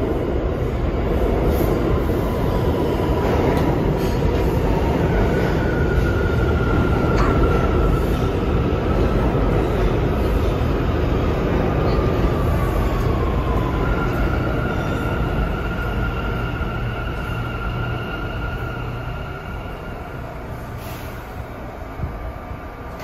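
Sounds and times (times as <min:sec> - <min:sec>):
subway train rumble: 0:00.0 - 0:23.0.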